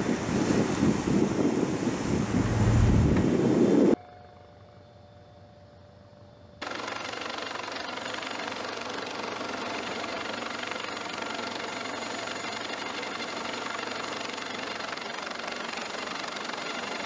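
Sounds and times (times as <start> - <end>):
helicopter rotor and engines: 0.0 - 4.0, 6.6 - 17.0.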